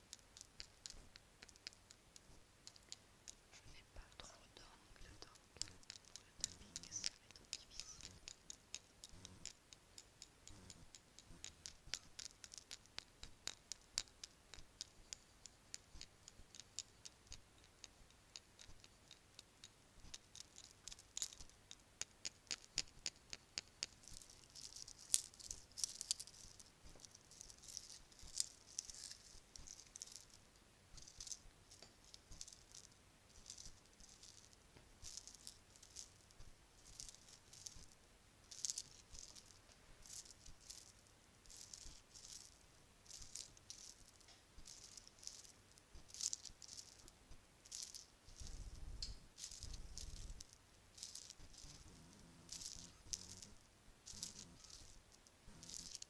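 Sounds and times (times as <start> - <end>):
bracelets clinking and rattling: 0.0 - 56.0.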